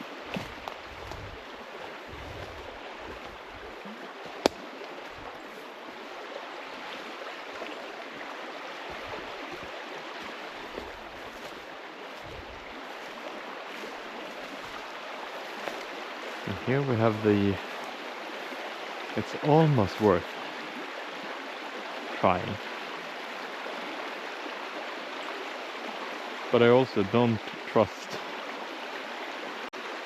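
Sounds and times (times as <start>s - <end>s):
stream rushing: 0.0s - 30.0s.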